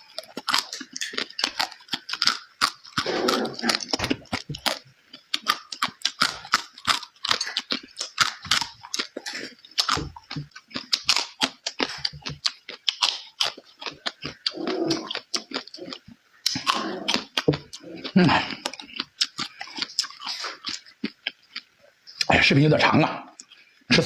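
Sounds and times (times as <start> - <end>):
chewing with wet mouth smacks: 0.0 - 22.3.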